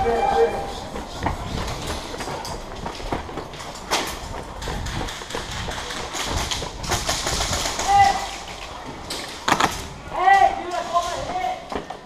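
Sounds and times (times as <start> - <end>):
footsteps: 0.0 - 12.0
gear rattling and rustling: 0.0 - 12.0.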